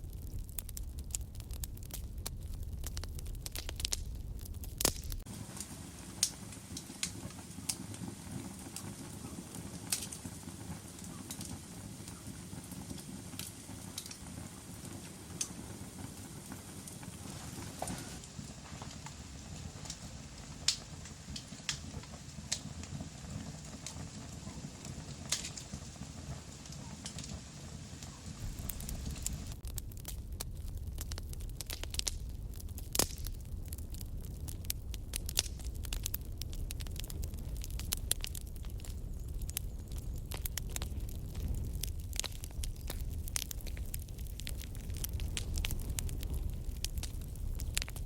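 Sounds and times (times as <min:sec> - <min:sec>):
fire crackling in fireplace: 0:00.0 - 0:48.0.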